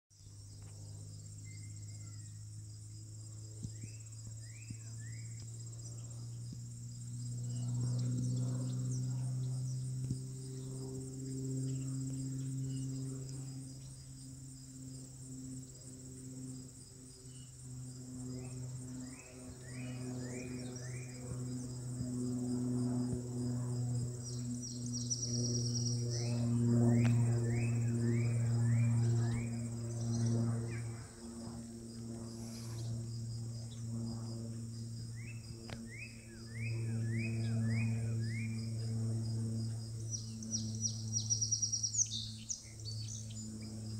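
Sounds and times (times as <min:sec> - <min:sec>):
insects trilling: 0:00.2 - 0:43.9
low droning hum: 0:00.2 - 0:43.9.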